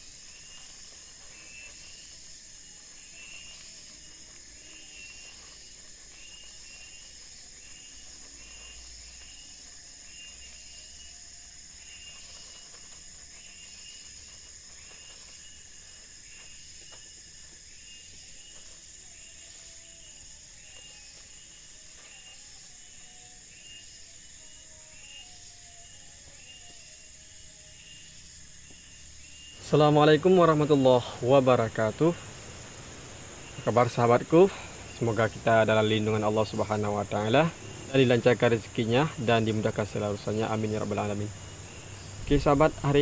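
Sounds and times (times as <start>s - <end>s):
insect chirps: 0.0s - 43.0s
insects droning: 0.0s - 43.0s.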